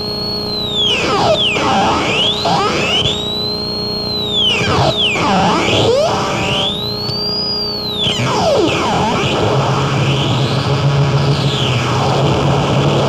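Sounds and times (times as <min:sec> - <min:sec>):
whistling tone sweeping up and down: 0:00.0 - 0:10.7
dense wall of noise: 0:00.0 - 0:13.0.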